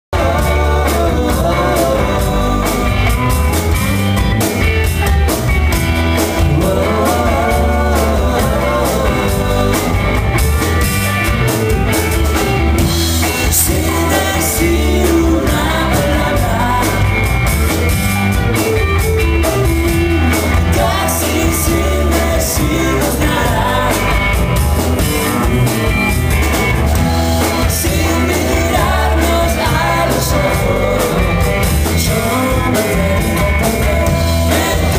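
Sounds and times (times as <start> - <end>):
drums: 0.1 - 34.9
rock band playing: 0.1 - 34.9
electric guitar: 0.2 - 34.9.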